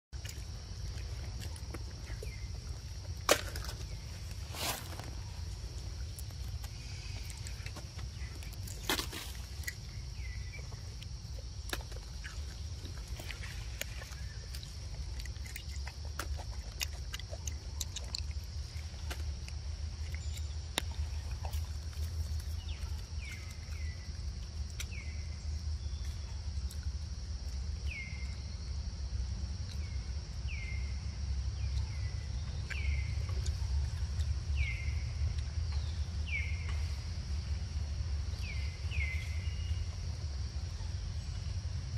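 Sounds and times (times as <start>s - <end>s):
high insect drone: 0.2s - 41.9s.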